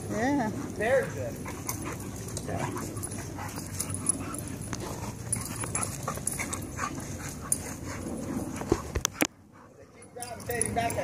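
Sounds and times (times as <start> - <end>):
dogs play-wrestling noises: 0.0 - 11.0.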